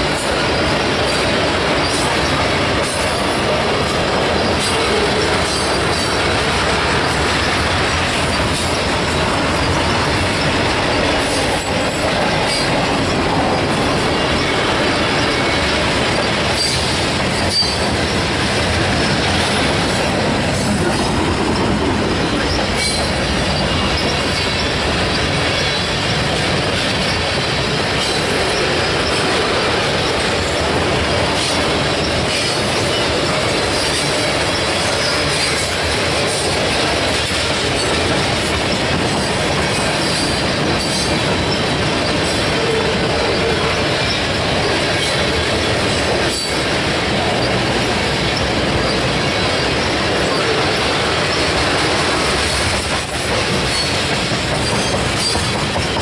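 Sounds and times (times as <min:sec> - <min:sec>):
freight train wheels rumbling on rails: 0:00.0 - 0:56.0
wheels clicking over rail joints: 0:00.0 - 0:56.0.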